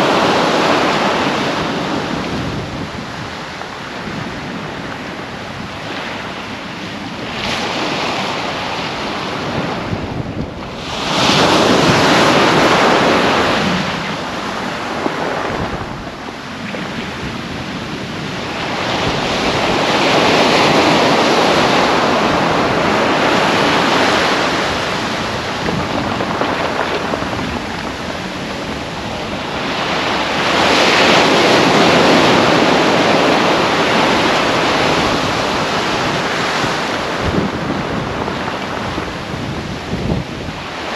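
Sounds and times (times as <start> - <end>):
surf breaking on beach: 0.0 - 40.9.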